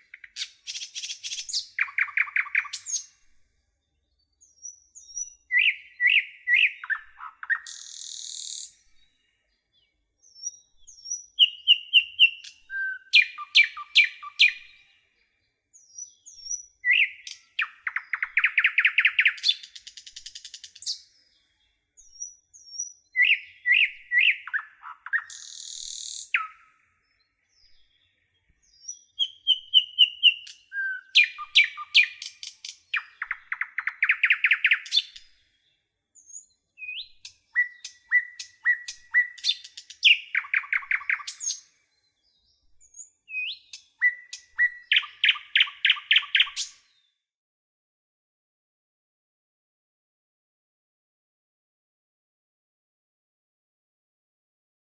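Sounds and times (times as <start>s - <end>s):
nightingale singing: 0.0s - 3.2s, 3.8s - 47.0s.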